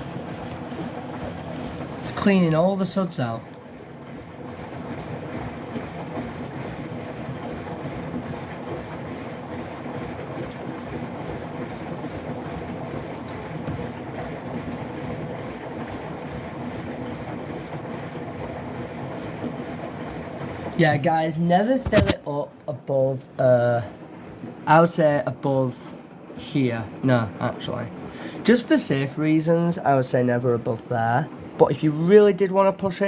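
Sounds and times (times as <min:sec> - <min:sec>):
water sloshing in drum: 0:00.0 - 0:33.0.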